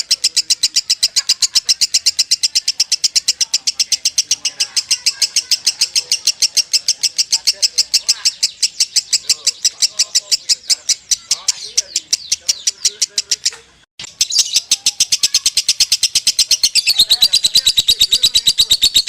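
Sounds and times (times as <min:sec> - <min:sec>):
lovebird chattering trill: 0:00.0 - 0:19.0.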